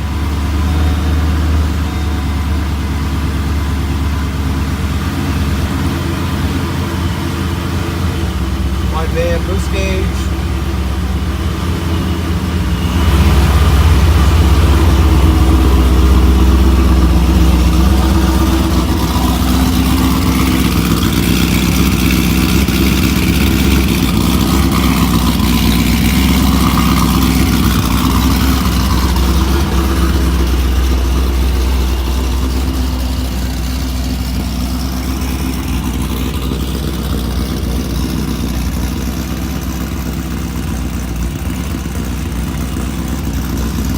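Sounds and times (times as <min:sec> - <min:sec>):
car engine idling through loud exhaust: 0:00.0 - 0:43.9.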